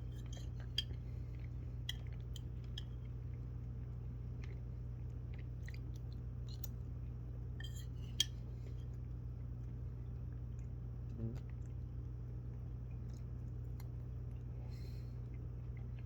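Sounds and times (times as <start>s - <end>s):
food crunching while eaten: 0.0s - 16.0s
steady low hum: 0.0s - 16.0s.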